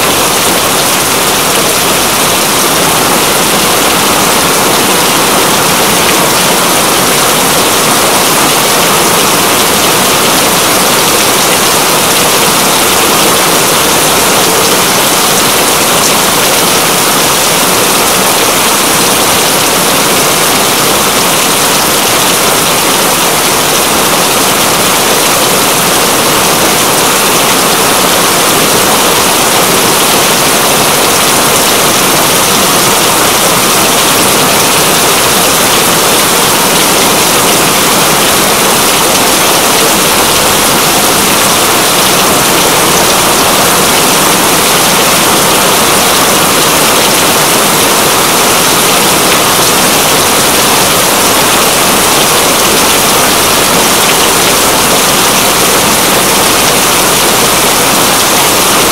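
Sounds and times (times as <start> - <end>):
rain falling steadily: 0.0 - 58.9.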